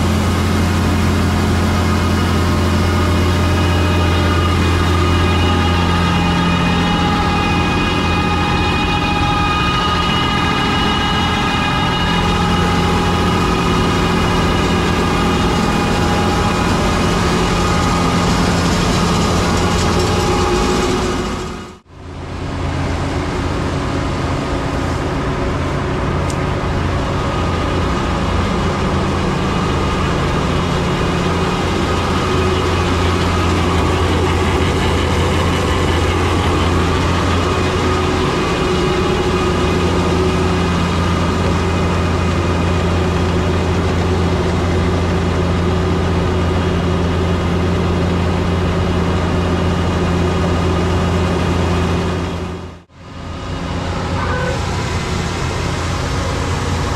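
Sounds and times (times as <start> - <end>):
harvest machinery engine drone: 0.0 - 56.9.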